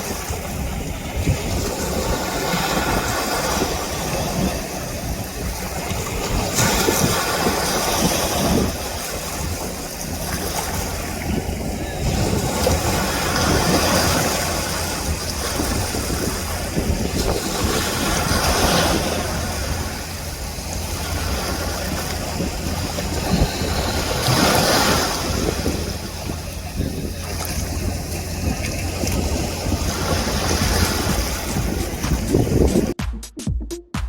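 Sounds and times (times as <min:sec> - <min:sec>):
surf rushing: 0:00.0 - 0:33.0
wind buffeting microphone: 0:00.0 - 0:33.0.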